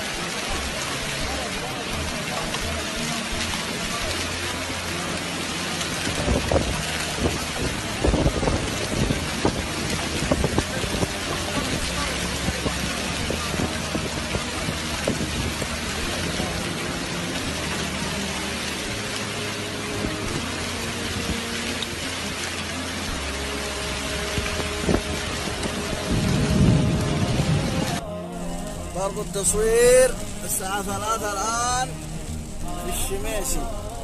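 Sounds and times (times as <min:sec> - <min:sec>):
heavy rain falling: 0:00.0 - 0:34.0
raindrops tapping close by: 0:00.0 - 0:34.0.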